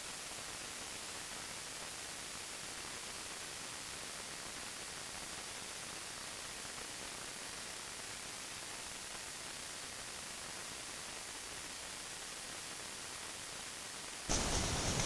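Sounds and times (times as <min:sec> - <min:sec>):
microphone hiss: 0:00.0 - 0:15.0.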